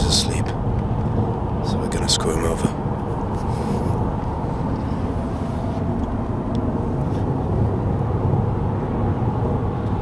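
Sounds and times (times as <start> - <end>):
vehicle cabin engine rumble: 0.0 - 10.0.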